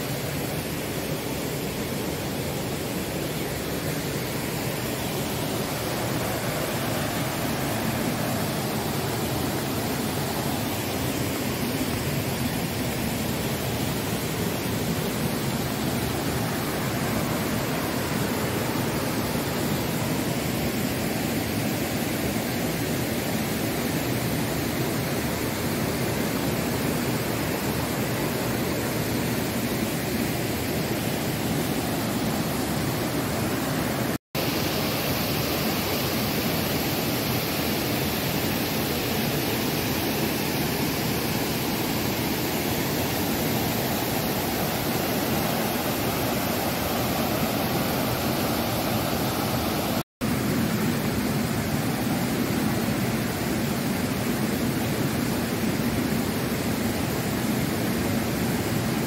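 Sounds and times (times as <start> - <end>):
waterfall and river rushing: 0.0 - 59.0.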